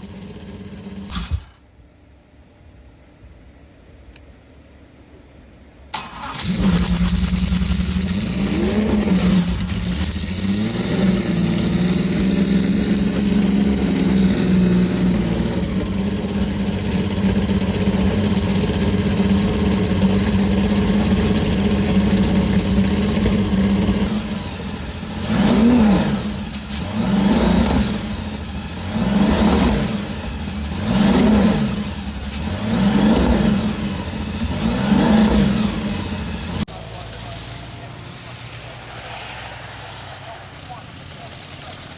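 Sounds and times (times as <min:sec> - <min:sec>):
car engine starting and idling: 0:00.0 - 0:01.8, 0:05.9 - 0:41.9
engine throttle blips: 0:05.9 - 0:41.9.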